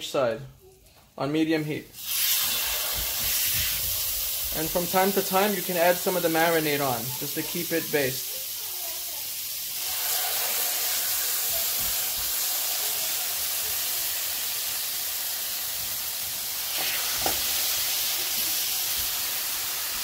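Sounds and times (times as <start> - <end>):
chicken sizzling in a pan: 1.9 - 20.0.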